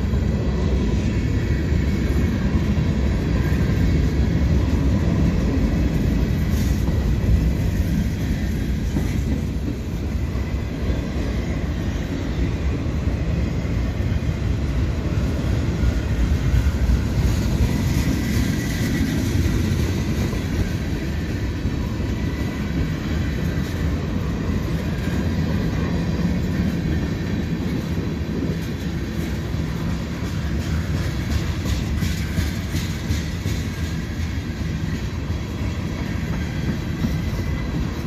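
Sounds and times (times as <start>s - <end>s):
steel wheels rumbling on rails: 0.0s - 38.0s.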